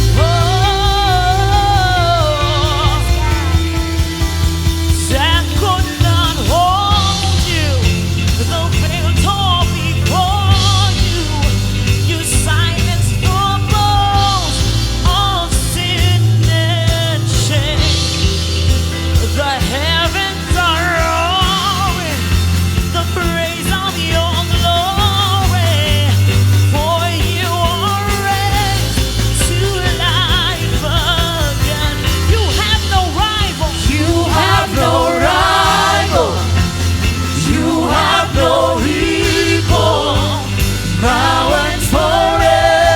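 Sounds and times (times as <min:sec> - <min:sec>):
bass and drums: 0:00.0 - 0:42.9
melodic lead line: 0:00.0 - 0:42.9.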